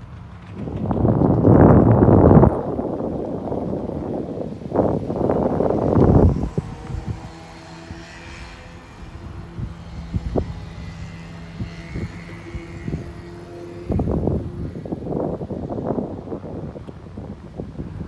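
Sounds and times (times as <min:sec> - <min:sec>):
distant engine droning: 0:00.0 - 0:18.0
wind buffeting microphone: 0:00.0 - 0:18.0.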